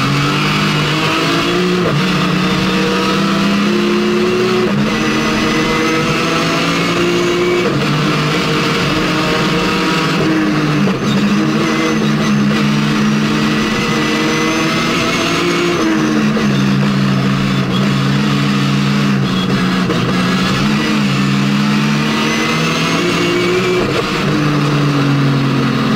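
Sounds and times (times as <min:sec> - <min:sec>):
rally car engine revving: 0:00.0 - 0:25.9.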